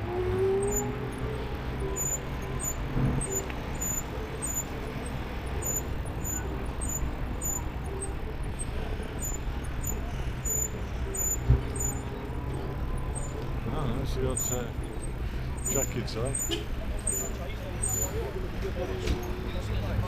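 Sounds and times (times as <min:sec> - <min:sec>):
tyre and road noise: 0:00.0 - 0:20.0.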